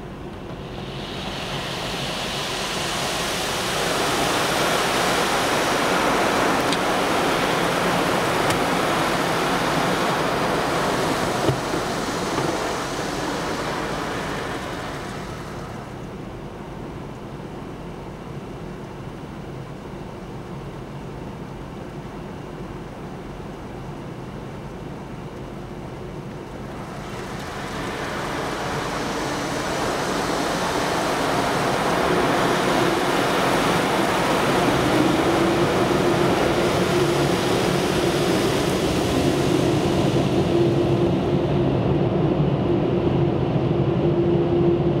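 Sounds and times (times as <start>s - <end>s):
car wash water spray rushing: 0.0s - 19.0s, 24.3s - 42.8s
steady hum: 0.0s - 45.0s.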